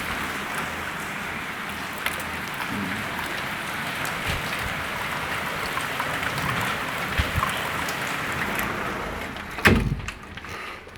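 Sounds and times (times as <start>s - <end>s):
steady rain falling: 0.0s - 10.9s.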